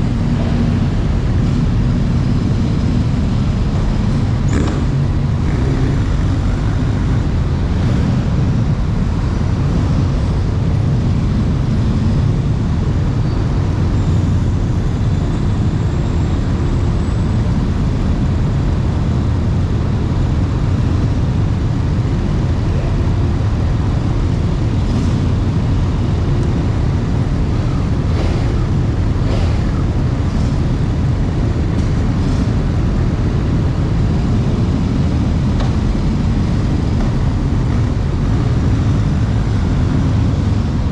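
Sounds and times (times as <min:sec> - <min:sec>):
vehicle engines rumbling: 0:00.0 - 0:40.9.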